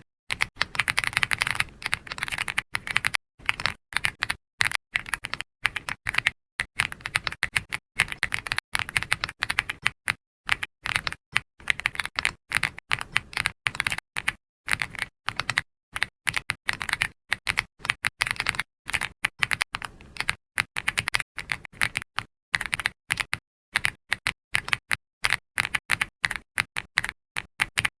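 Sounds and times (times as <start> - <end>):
computer keyboard typing: 0.3 - 28.0.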